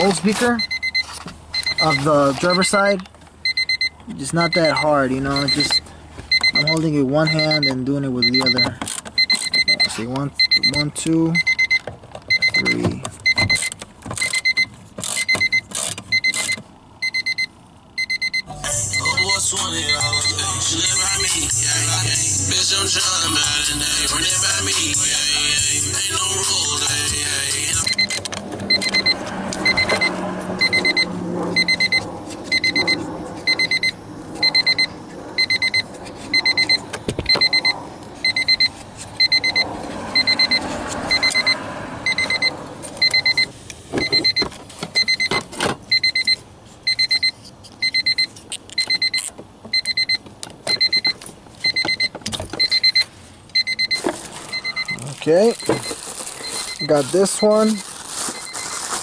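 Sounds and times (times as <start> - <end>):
car warning buzzer beeping: 0.0 - 57.8.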